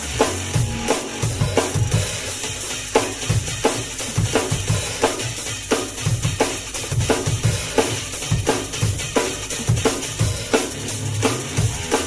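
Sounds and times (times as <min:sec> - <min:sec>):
drum kit playing fast groove: 0:00.0 - 0:12.0.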